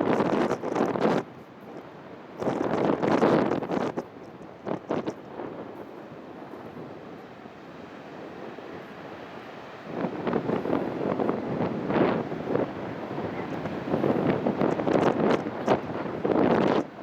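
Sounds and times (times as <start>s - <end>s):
sea waves washing in: 0.0s - 17.0s
wind buffeting microphone: 0.0s - 17.0s.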